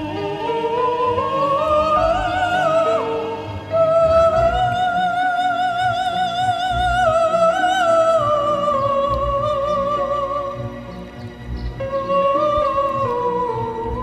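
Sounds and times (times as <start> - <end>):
operatic singing: 0.0 - 14.0
soft accompaniment: 0.0 - 14.0.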